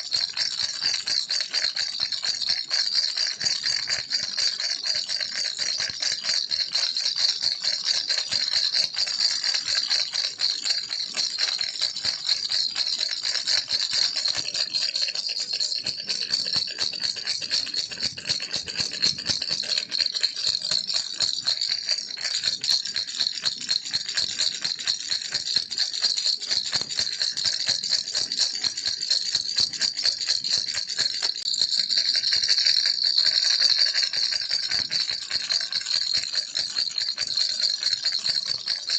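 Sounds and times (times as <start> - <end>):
baby rattle shaken: 0.0 - 38.9.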